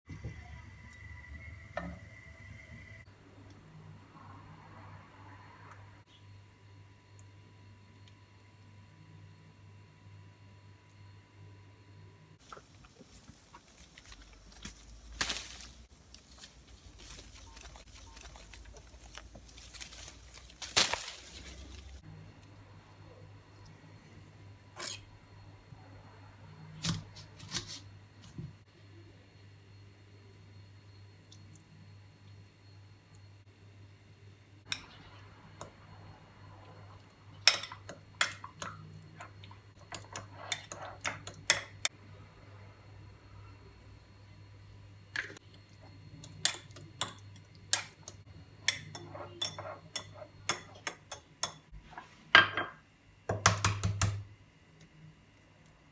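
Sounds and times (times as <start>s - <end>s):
low steady hum: 0.1s - 55.9s.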